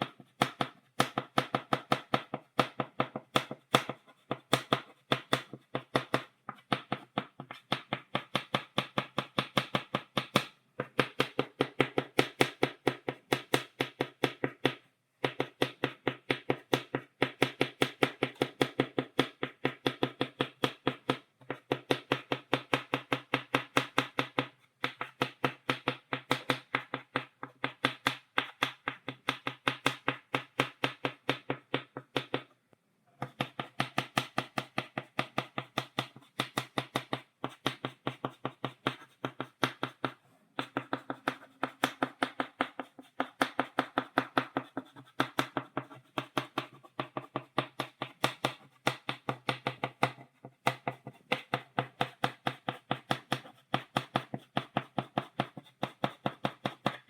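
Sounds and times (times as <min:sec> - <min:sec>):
chalk tapping on blackboard: 0:00.0 - 0:32.5, 0:33.2 - 0:57.0.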